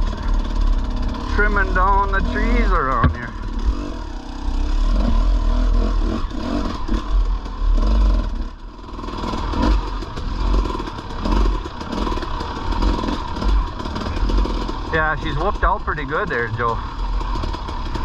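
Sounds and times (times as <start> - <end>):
bike rattling over rough trail: 0.0 - 18.0
dirt bike engine: 0.0 - 18.0.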